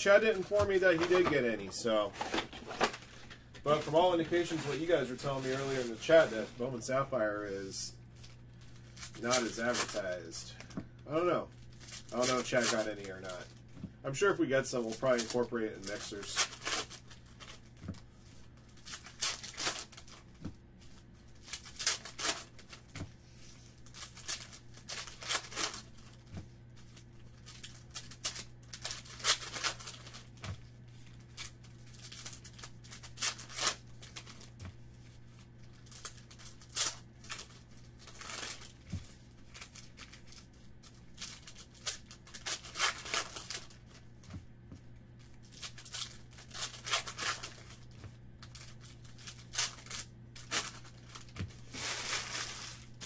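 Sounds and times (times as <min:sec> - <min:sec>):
foil wrappers crinkling and tearing: 0:00.0 - 0:44.3, 0:44.9 - 0:53.0.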